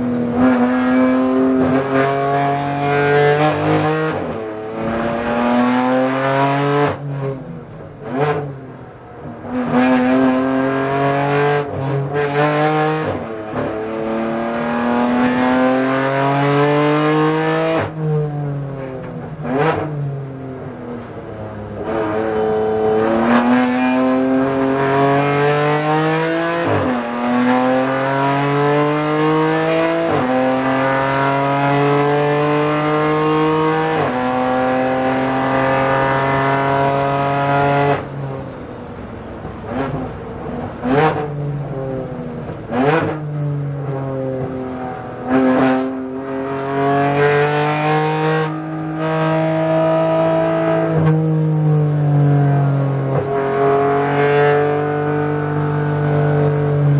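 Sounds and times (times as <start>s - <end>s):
race car engine accelerating: 0.2s - 7.4s, 9.4s - 18.0s, 21.7s - 38.5s, 39.5s - 56.9s.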